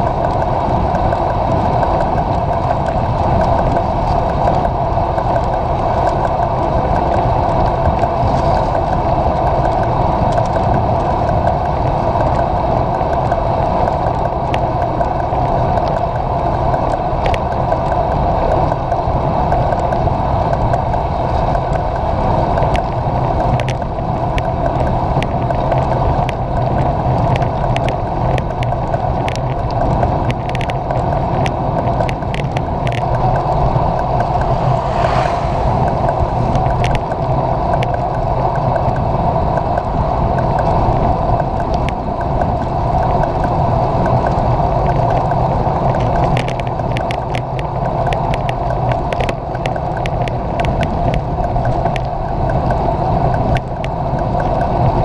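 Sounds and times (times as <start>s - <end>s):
bicycle tyres on wet asphalt: 0.0s - 55.0s
light ticks: 0.0s - 55.0s
wind noise: 0.0s - 55.0s.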